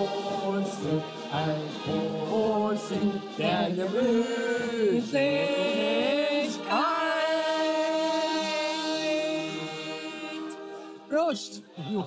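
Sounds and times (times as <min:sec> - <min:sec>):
brass band playing: 0:00.0 - 0:10.9
crowd singing: 0:00.0 - 0:10.9.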